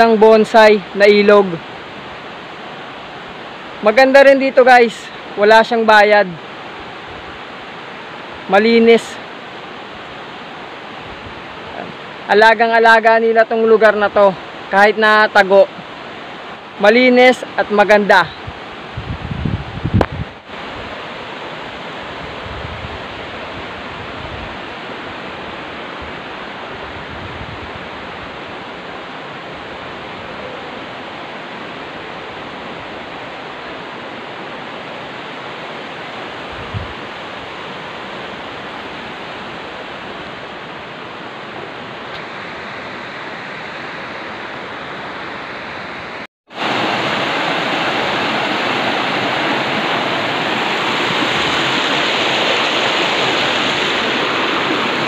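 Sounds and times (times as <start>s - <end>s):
river flowing over stones: 0.0s - 19.0s, 23.0s - 55.0s
water cascading over rocks: 0.0s - 19.0s, 23.0s - 55.0s.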